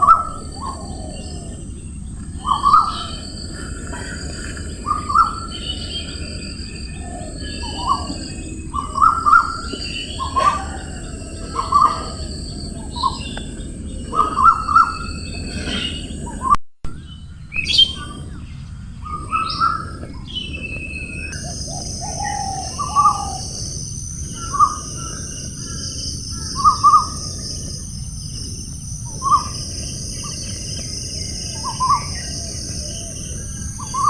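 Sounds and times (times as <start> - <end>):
birds singing: 0.0 - 34.0.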